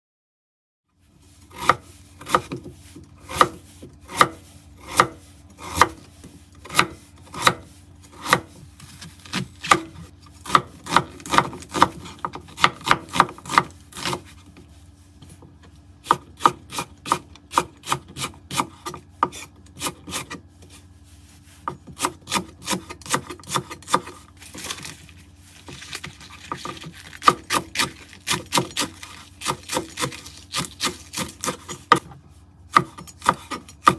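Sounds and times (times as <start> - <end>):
knife slicing vegetables: 1.3 - 33.9.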